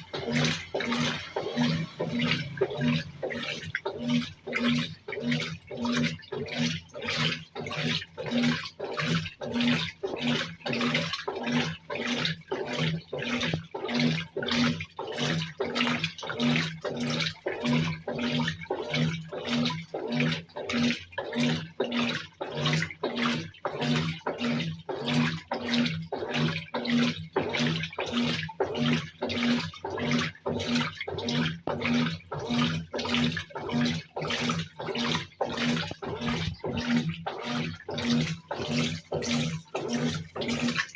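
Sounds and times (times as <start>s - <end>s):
low motor hum: 0.0s - 21.6s, 22.5s - 40.9s
washing machine agitator swishing: 0.0s - 40.9s.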